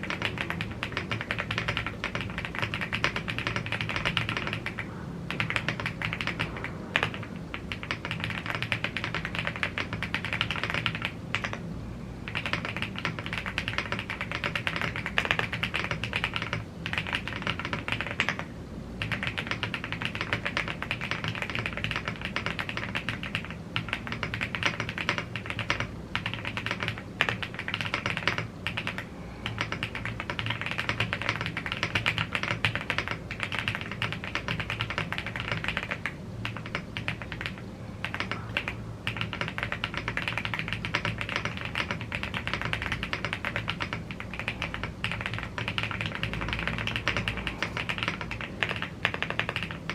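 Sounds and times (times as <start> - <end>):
fast typing on mechanical keyboard: 0.0 - 11.6, 12.2 - 49.9.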